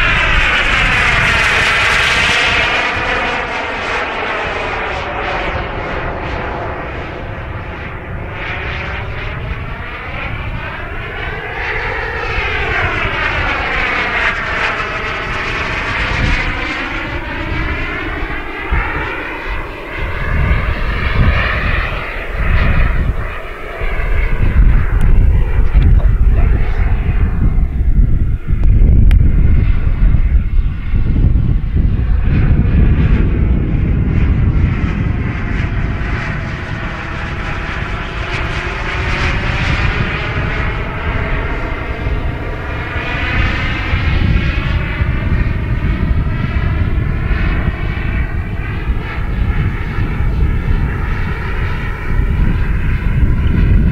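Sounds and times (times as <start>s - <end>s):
model jet turbine rush: 0.0s - 53.9s.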